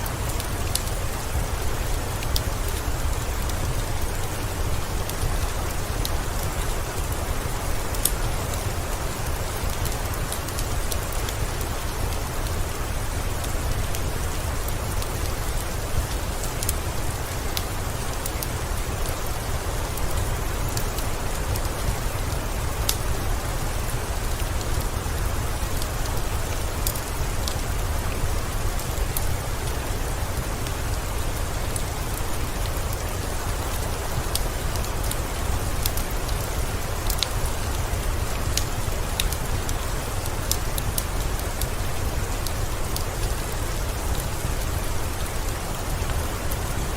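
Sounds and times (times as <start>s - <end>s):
steady rain falling: 0.0s - 46.9s
wood fire crackling: 0.0s - 46.9s.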